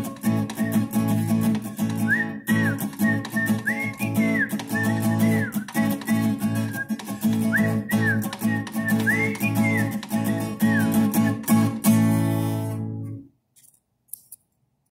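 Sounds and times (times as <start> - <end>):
acoustic guitar strumming: 0.0 - 13.3.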